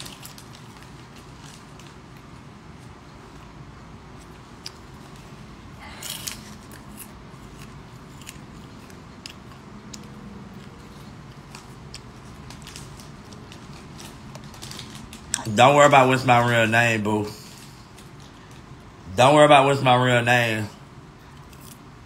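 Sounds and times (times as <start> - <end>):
person chewing popcorn: 0.0 - 16.5, 17.3 - 19.1, 21.1 - 22.0
low room hum: 0.0 - 22.0.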